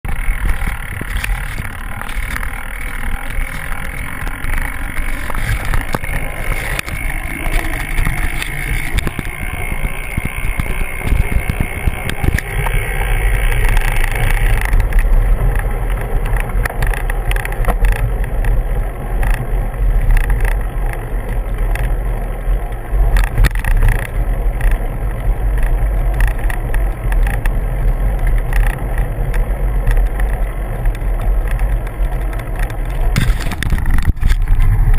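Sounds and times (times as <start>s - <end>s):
bicycle tyres on gravel: 0.0s - 34.9s
bike knocks and rattles: 0.0s - 34.9s
wind on microphone: 0.0s - 34.9s.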